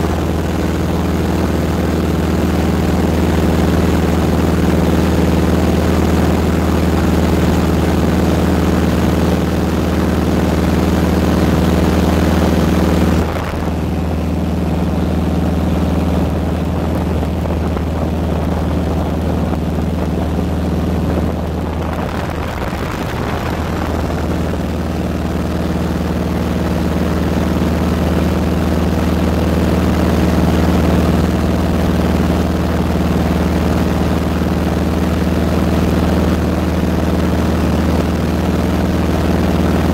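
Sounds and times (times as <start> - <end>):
propeller airplane engine drone: 0.0 - 39.9.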